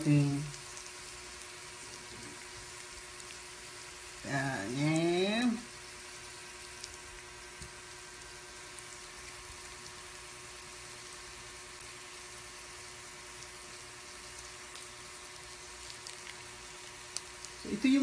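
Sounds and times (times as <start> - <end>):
food sizzling on hot plate: 0.0 - 18.0.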